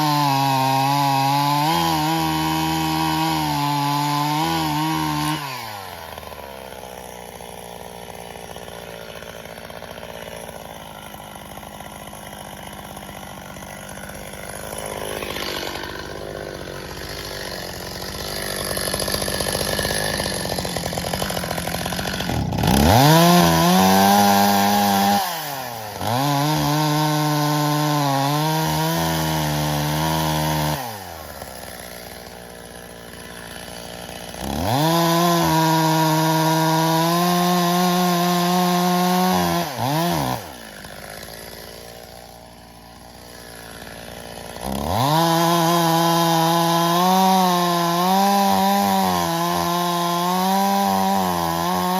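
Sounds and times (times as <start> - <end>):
chainsaw idling: 0.0 - 51.9
chainsaw revving cutting logs: 0.0 - 51.9.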